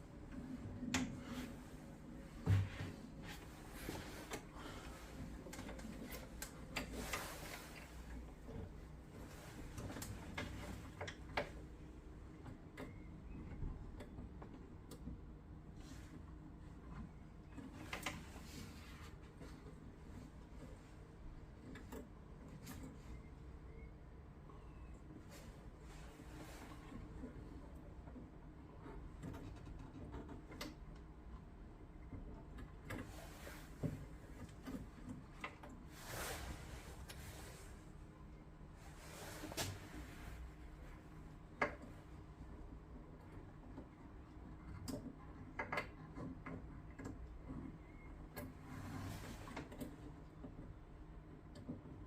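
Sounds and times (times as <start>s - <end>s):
faint clicks and knocks: 0.0s - 36.1s, 39.4s - 52.0s
low steady hum: 0.0s - 52.0s.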